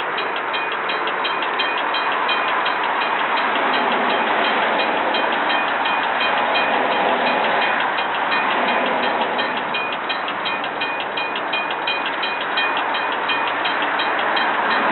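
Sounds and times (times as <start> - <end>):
rapid even clicking of wheels: 0.0 - 14.9
train wheels rushing on rails: 0.0 - 14.9.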